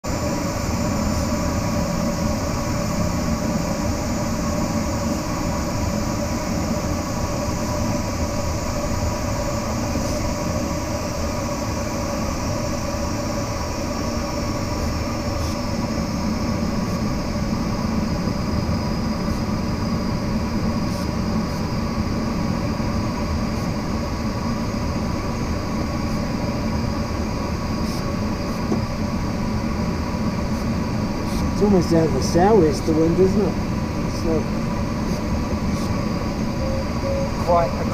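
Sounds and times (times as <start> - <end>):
rushing airflow in cockpit: 0.0 - 37.9
faint steady tones: 0.1 - 37.9.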